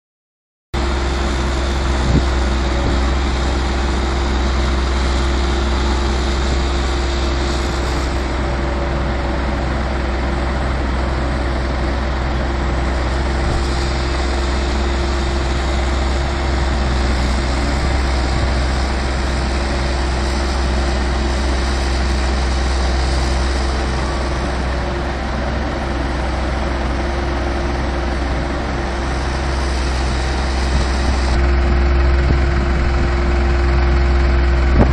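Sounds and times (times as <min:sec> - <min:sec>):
diesel engines humming: 0:00.8 - 0:34.9.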